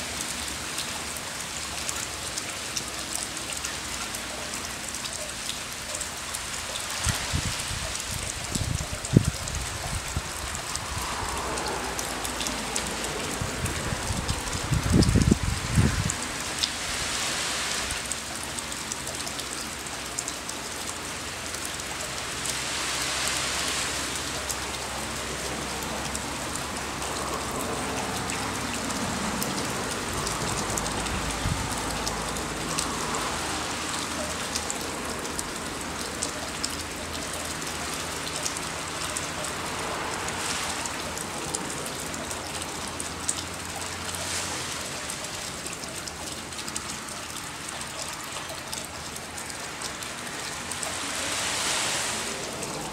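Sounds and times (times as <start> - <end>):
raindrops ticking: 0.0 - 52.9
steady rain hiss: 0.0 - 52.9.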